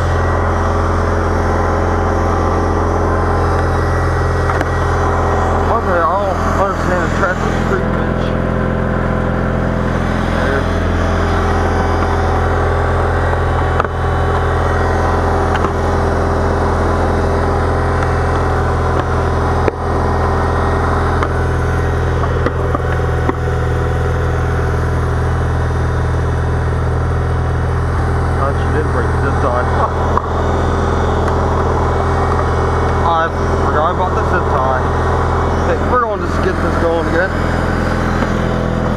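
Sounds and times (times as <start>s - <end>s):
snow plow engine running: 0.0s - 38.9s.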